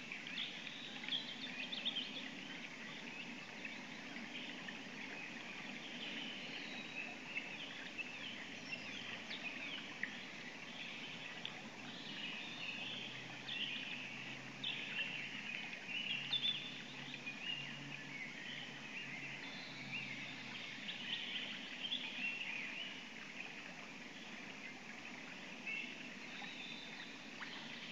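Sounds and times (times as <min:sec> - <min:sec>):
songbirds chirping and trilling: 0:00.0 - 0:27.9.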